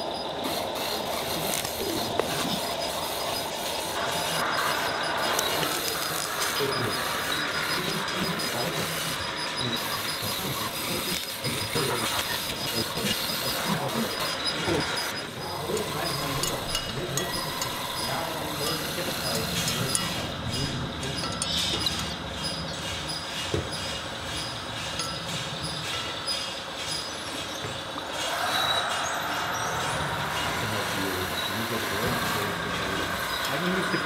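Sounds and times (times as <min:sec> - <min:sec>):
small motor whine: 0:00.0 - 0:22.7, 0:27.6 - 0:34.0
multi-tone whine rising: 0:00.0 - 0:23.2, 0:23.9 - 0:34.0.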